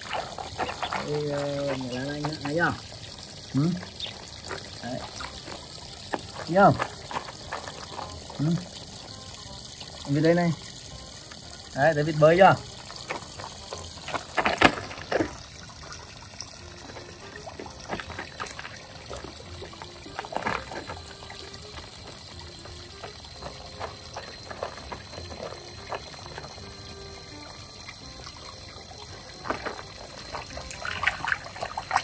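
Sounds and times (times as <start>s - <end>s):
soft music: 0.0s - 32.0s
water trickling and splashing: 0.0s - 32.0s.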